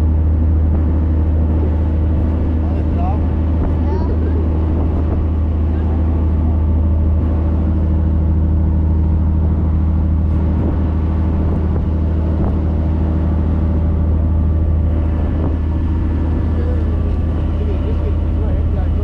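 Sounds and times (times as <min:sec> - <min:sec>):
boat engine drone: 0:00.0 - 0:19.0
water rushing along hull: 0:00.0 - 0:19.0.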